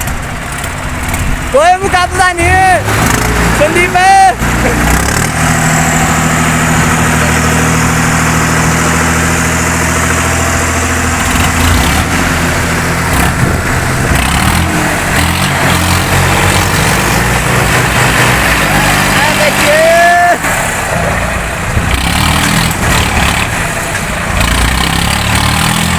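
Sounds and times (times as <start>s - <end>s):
tractor diesel engines under load: 0.0s - 25.9s.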